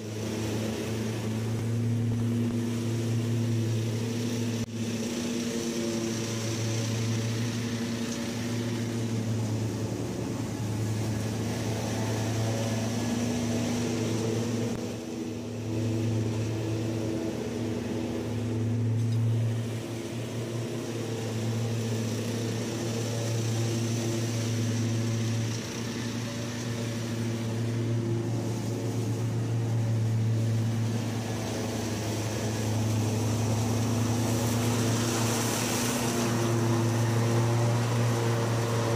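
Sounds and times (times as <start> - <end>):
leaf vacuum blower hiss: 0.0 - 38.9
mower engine hum: 0.0 - 38.9.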